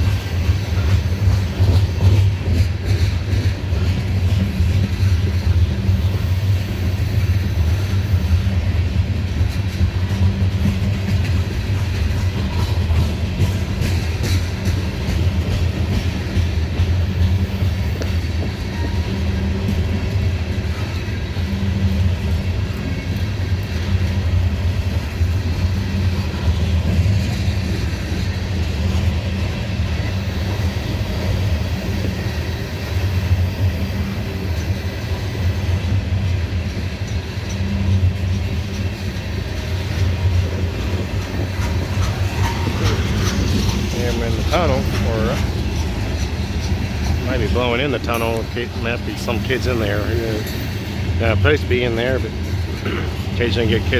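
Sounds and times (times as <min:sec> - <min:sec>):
freight train rumbling on rails: 0:00.0 - 0:53.9.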